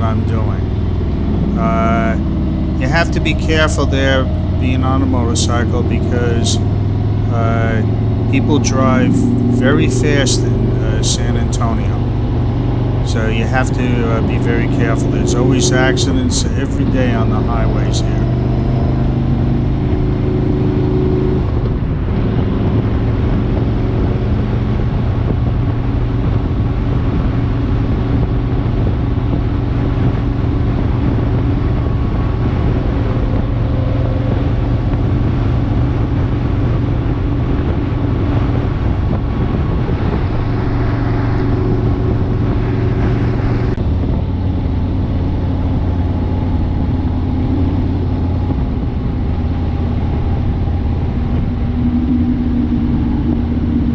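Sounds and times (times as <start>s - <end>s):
motorcycle engine running: 0.0s - 53.9s
road noise: 0.0s - 53.9s
wind noise: 0.0s - 53.9s.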